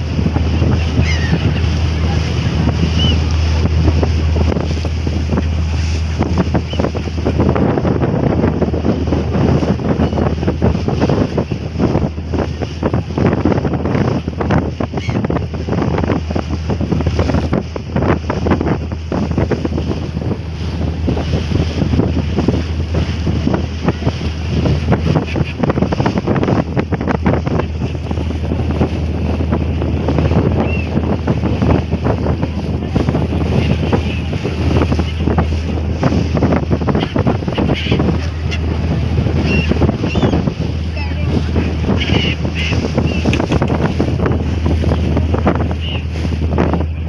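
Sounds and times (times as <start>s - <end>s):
ferry engine drone: 0.0s - 47.0s
water streaming past hull: 0.0s - 47.0s
wind buffeting microphone: 0.0s - 47.0s.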